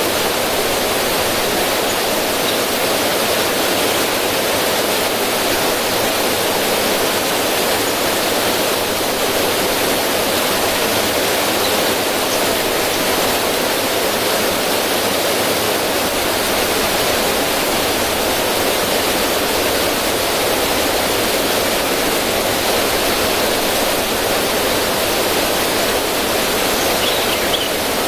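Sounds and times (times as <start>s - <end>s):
river water over rocks: 0.0s - 28.0s.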